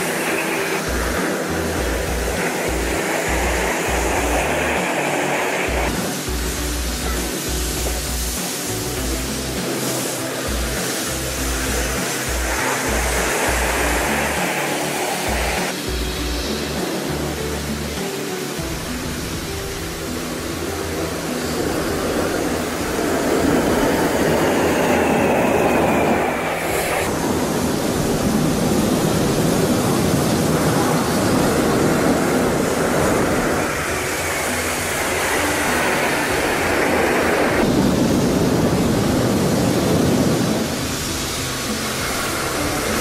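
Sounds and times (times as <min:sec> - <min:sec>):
high jet whine falling in pitch: 0:00.0 - 0:43.0
jet engines rushing rumble: 0:00.0 - 0:43.0.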